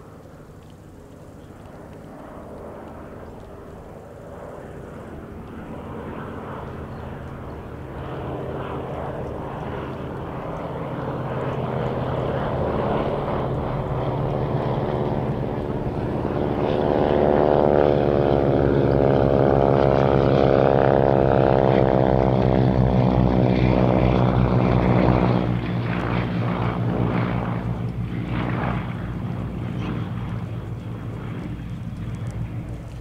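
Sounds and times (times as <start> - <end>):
propeller aircraft engine drone: 0.0 - 33.0.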